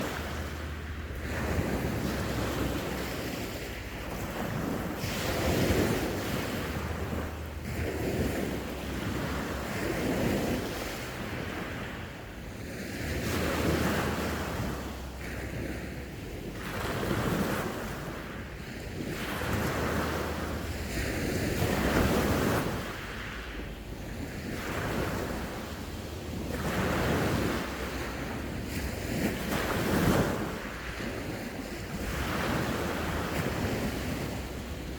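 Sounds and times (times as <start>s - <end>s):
waves breaking on shore: 0.0s - 34.9s
wind buffeting microphone: 0.0s - 34.9s.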